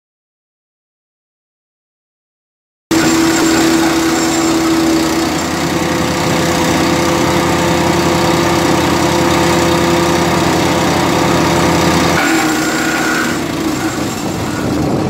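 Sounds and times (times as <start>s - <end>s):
chipper petrol engine running: 2.9s - 15.0s.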